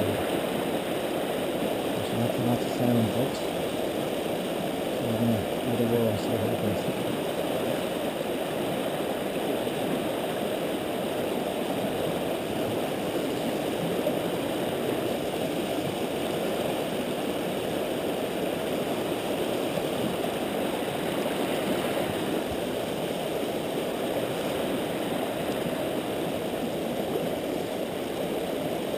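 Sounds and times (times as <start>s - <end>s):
river rushing against rock: 0.0s - 28.9s.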